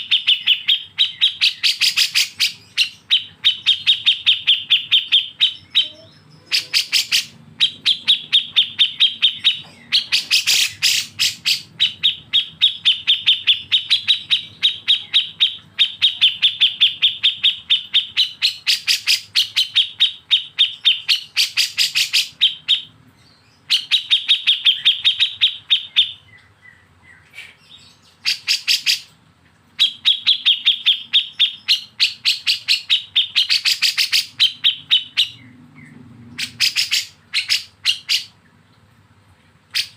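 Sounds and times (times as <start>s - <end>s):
caged bird singing sharp chips: 0.0s - 22.9s, 27.1s - 29.1s, 29.8s - 38.4s.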